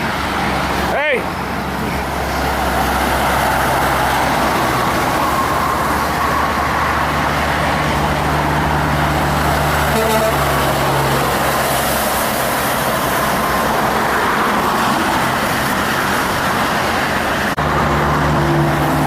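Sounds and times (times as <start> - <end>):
road traffic noise: 0.0 - 19.0
truck diesel engine droning: 0.0 - 19.0.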